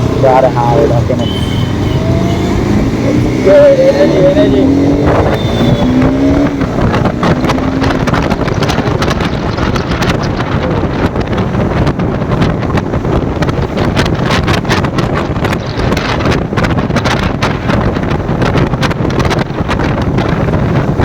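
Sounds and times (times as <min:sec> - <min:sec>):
motorcycle engine running: 0:00.0 - 0:21.0
road noise: 0:00.0 - 0:21.0
wind buffeting microphone: 0:00.0 - 0:21.0.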